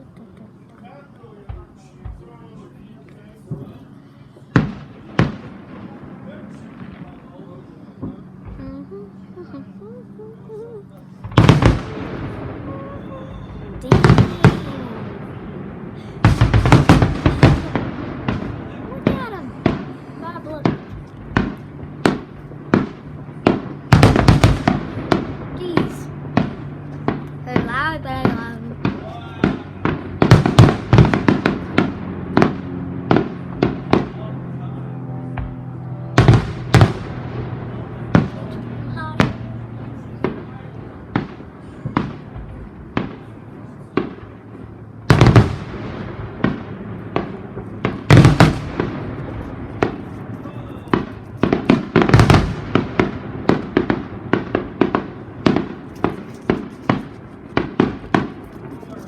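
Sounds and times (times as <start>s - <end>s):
fireworks banging: 1.4s - 59.0s.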